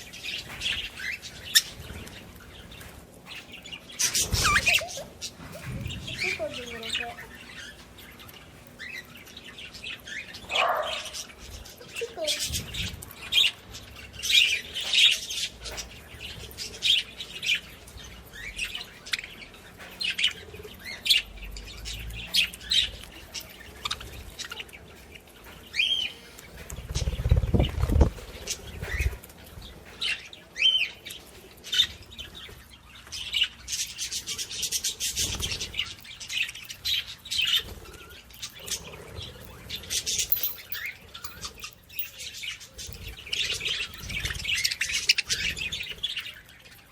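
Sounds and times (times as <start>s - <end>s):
pet birds chirping: 0.0s - 46.9s.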